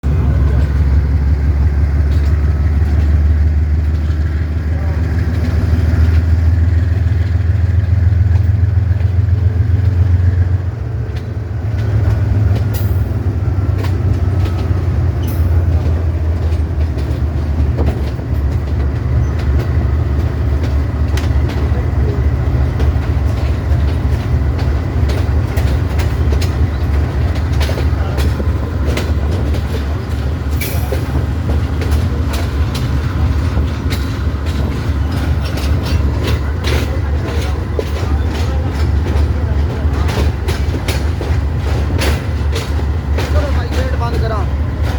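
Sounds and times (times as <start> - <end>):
locomotive engine drone: 0.0 - 44.9
wheels clicking over rail joints: 0.1 - 44.9.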